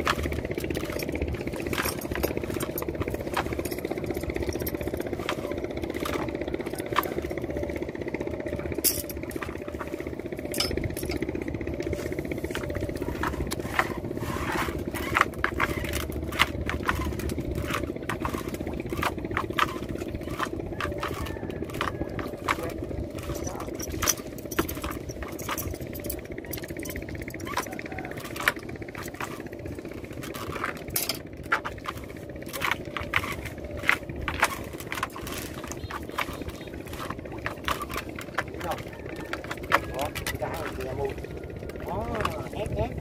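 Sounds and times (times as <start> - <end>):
small boat engine running: 0.0 - 43.0.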